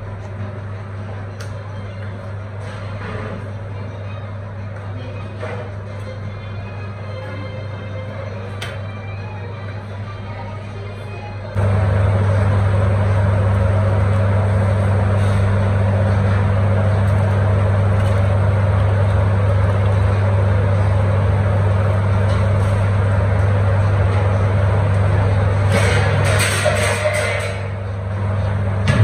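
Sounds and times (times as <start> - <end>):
machine drone with deep hum: 0.0 - 29.0.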